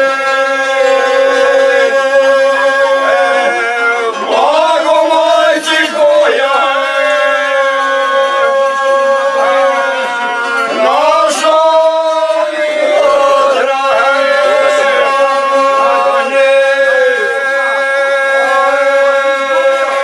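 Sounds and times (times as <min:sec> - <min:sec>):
men singing a drone: 0:00.0 - 0:20.0
ornamented voice singing: 0:00.0 - 0:20.0.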